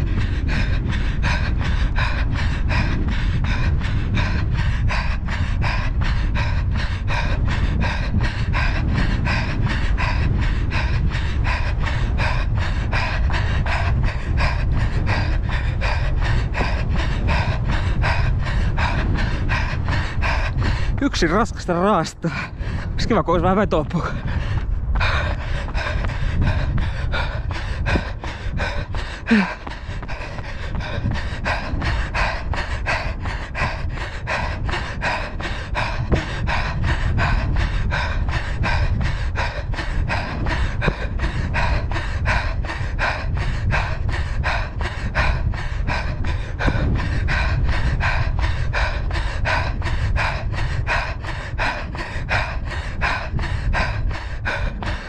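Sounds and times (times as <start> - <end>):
person panting heavily: 0.0 - 55.0
wind on microphone: 0.0 - 55.0.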